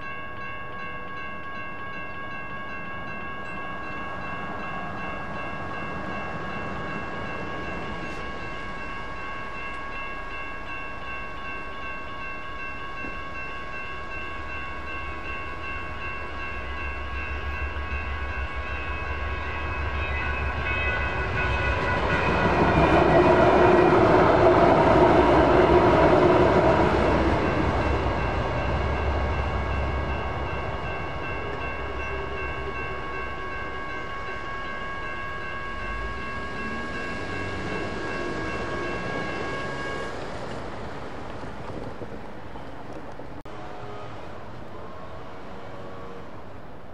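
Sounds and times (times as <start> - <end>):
railroad crossing bells ringing: 0.0 - 46.9
train rumble and wheels on rail: 0.0 - 46.9.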